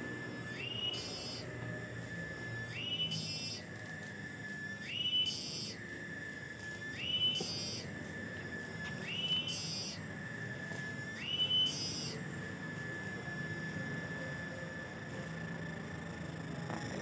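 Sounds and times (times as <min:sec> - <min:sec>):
cicada droning: 0:00.0 - 0:17.0.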